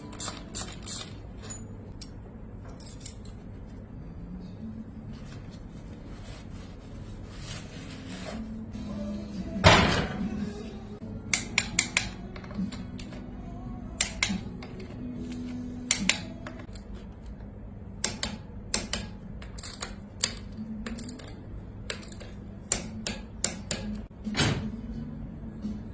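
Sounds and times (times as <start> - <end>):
low steady hum: 0.0 - 25.9.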